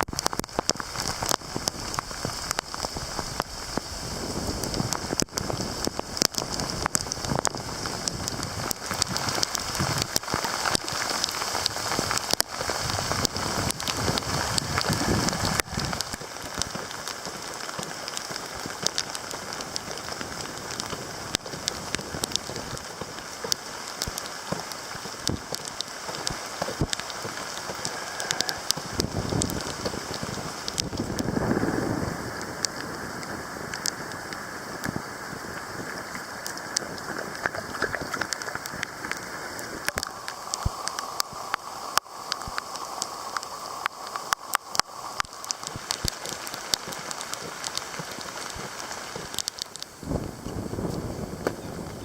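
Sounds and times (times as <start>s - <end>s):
rain hiss: 0.0s - 52.0s.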